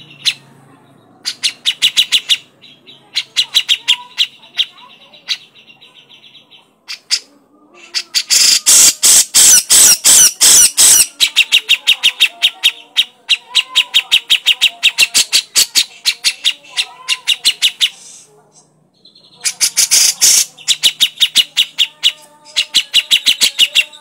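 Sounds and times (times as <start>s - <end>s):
bulbul harsh chattering call: 0.0s - 0.5s, 1.2s - 24.0s.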